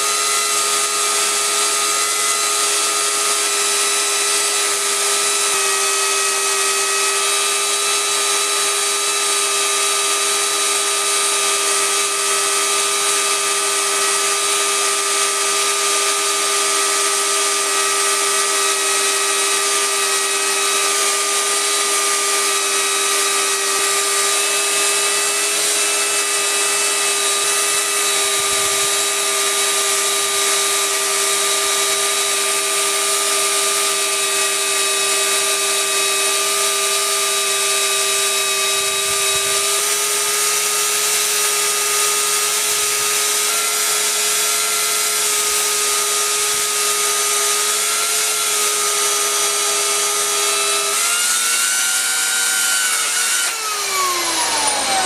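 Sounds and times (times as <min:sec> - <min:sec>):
chain cutting wood: 0:00.0 - 0:55.0
chainsaw motor whine: 0:00.0 - 0:55.0.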